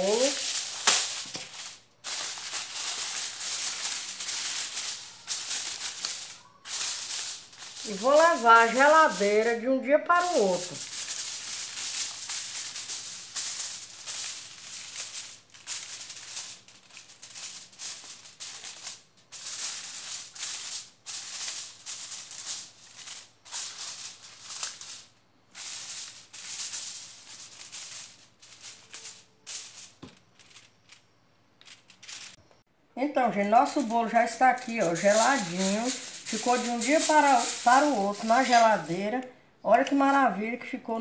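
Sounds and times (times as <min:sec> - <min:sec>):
aluminium foil crinkling: 0:00.0 - 0:32.4, 0:33.2 - 0:39.2.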